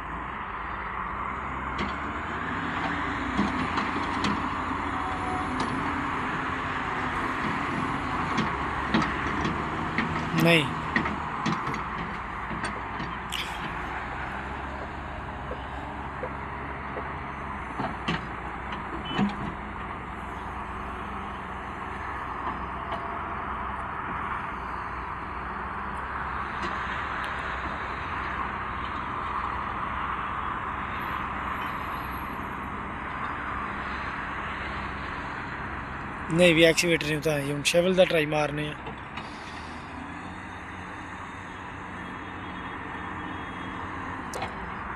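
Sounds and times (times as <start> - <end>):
heavy machine engine running: 1.3 - 38.0, 38.8 - 44.9.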